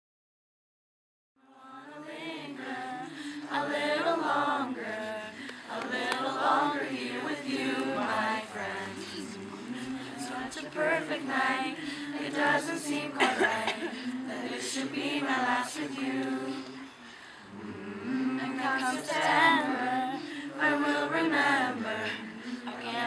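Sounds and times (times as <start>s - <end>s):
small choir singing a cappella: 1.4s - 23.0s.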